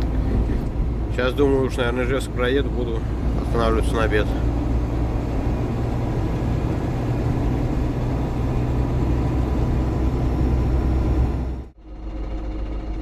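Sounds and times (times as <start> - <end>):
diesel engine drone: 0.0 - 13.0
road rumble: 0.0 - 13.0.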